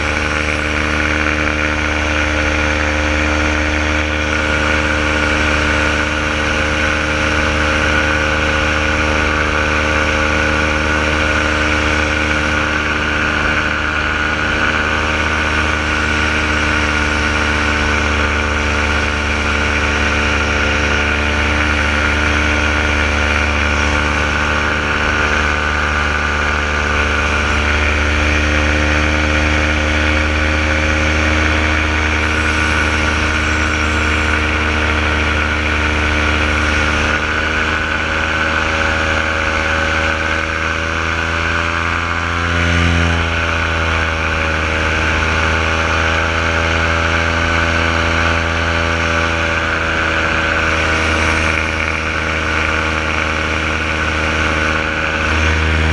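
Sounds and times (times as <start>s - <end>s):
paramotor engine and propeller drone: 0.0s - 55.9s.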